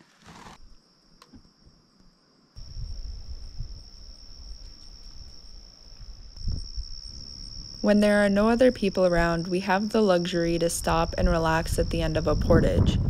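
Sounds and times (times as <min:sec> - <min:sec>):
crickets trilling: 0:00.6 - 0:13.0.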